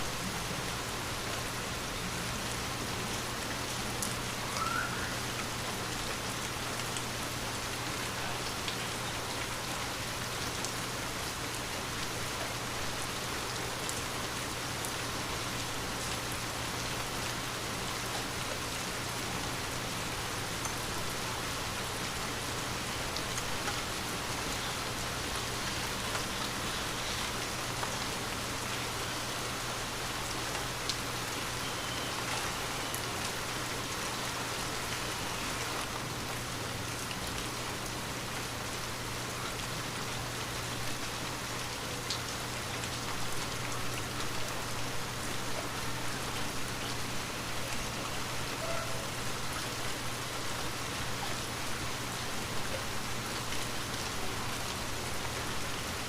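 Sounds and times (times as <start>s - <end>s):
light rain falling: 0.0s - 56.0s
raindrops ticking on surfaces: 0.0s - 56.0s.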